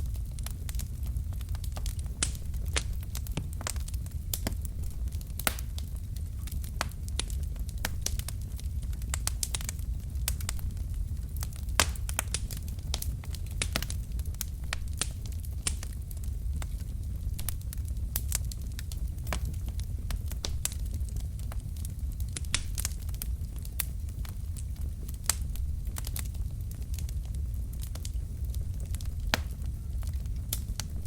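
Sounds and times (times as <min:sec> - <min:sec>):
logs crackling and popping: 0:00.0 - 0:31.0
low rumble of flames: 0:00.0 - 0:31.0.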